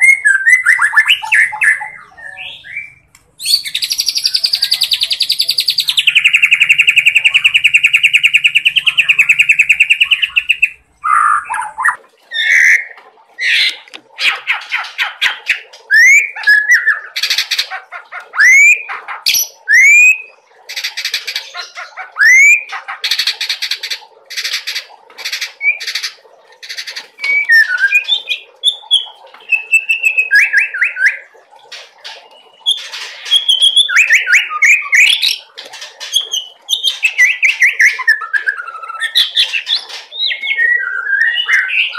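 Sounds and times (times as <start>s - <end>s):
bird whistles and chattering: 0.0s - 20.3s, 21.3s - 23.3s, 27.1s - 31.2s, 32.4s - 35.4s, 36.1s - 41.9s.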